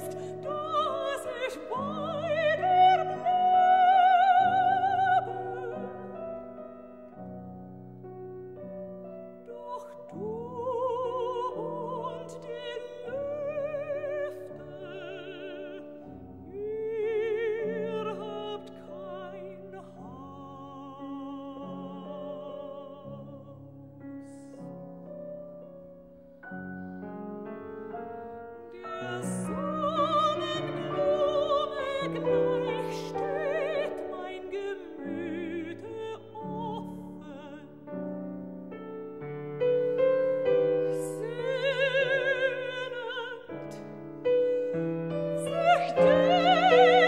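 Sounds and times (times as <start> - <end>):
piano accompaniment: 0.0 - 47.0
soprano singing: 0.0 - 47.0.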